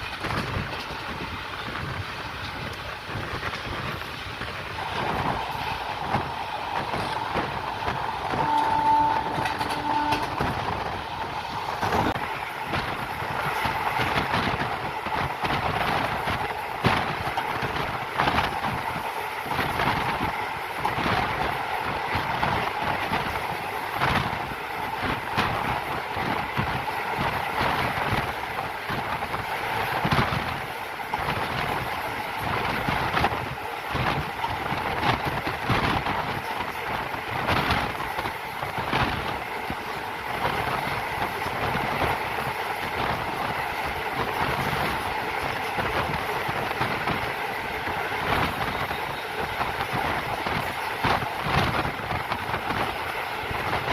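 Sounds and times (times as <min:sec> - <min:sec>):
train coach rumble: 0:00.0 - 0:53.9
wheels clacking over rail joints: 0:00.0 - 0:53.9.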